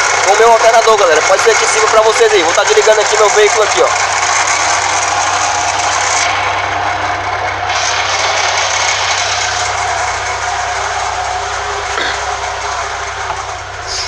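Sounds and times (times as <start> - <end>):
car engine running: 0.0 - 14.0
strange alternator noise: 0.0 - 14.0.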